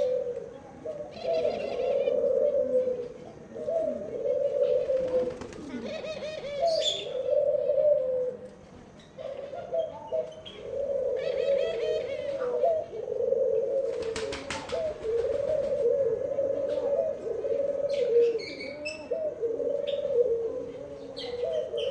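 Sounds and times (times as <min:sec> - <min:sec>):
pigeons cooing: 0:00.0 - 0:21.9.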